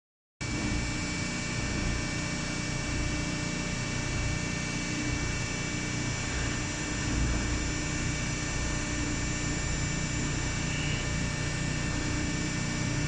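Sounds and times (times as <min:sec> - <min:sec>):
high pump whine: 0:00.4 - 0:13.0
motor hum and rumble: 0:00.4 - 0:13.0.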